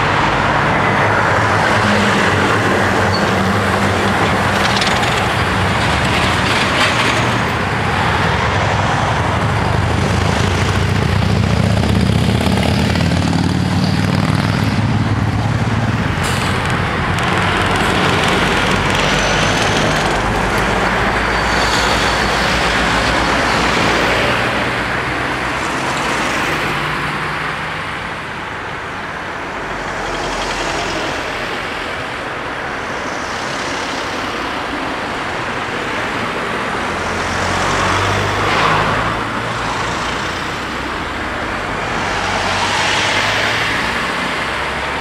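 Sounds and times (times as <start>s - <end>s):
cars and vans driving past: 0.0s - 45.0s.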